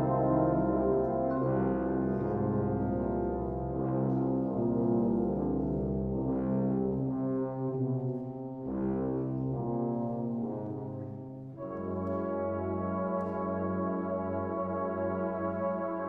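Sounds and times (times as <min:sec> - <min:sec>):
brass band playing chords: 0:00.0 - 0:16.0.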